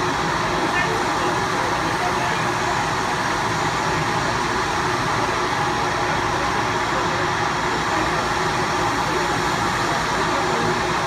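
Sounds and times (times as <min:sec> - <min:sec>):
helicopter turbine engines running: 0:00.0 - 0:11.0.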